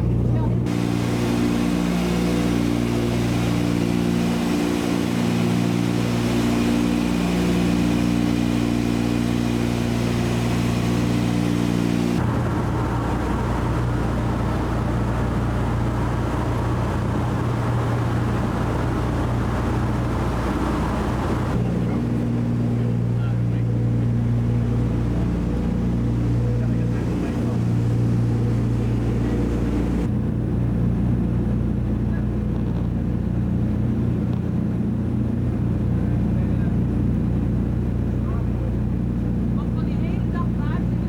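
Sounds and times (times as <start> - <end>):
aircraft engines droning: 0.0 - 41.0.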